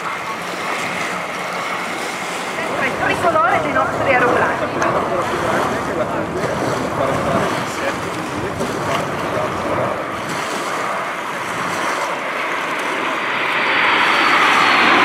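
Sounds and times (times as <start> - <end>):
high whine falling in pitch: 0.0 - 15.0
jet roar passing overhead: 0.0 - 15.0.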